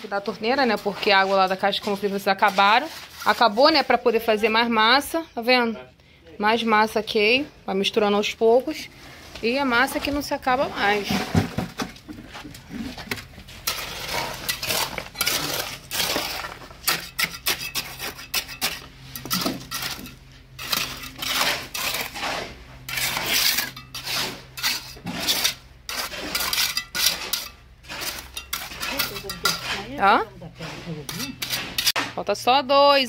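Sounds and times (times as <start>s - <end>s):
trowel scraping wet concrete: 0.0s - 4.8s, 8.4s - 11.7s, 12.3s - 32.5s.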